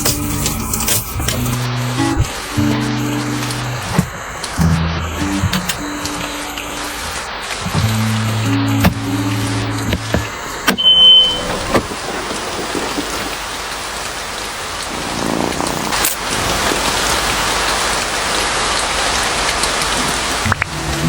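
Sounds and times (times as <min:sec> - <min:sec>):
steady rain falling: 0:00.0 - 0:10.7, 0:11.3 - 0:21.0.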